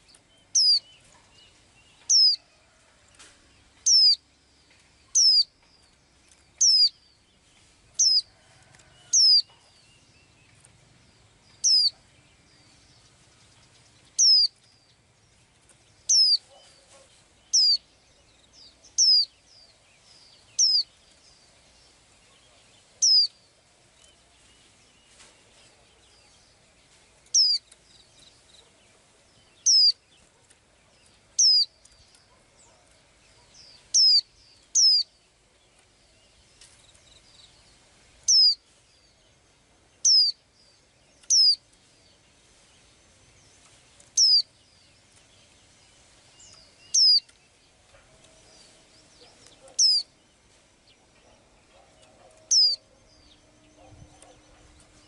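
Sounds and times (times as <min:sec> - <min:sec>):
small bird chirping: 0:00.0 - 0:02.4, 0:03.6 - 0:08.4, 0:09.0 - 0:39.4, 0:40.0 - 0:55.0.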